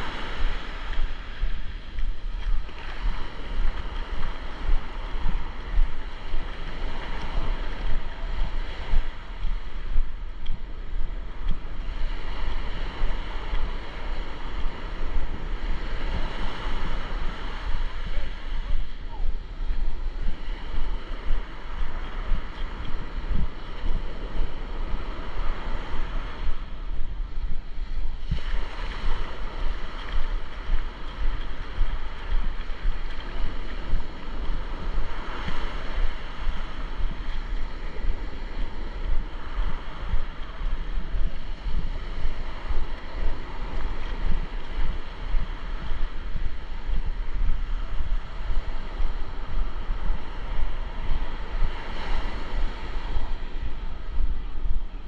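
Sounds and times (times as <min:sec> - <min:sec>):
ocean surf washing ashore: 0:00.0 - 0:55.0
wind buffeting microphone: 0:00.0 - 0:55.0.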